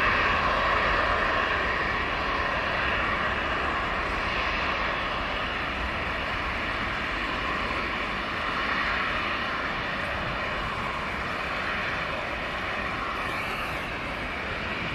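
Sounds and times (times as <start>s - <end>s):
jet engines rushing: 0.0s - 14.9s.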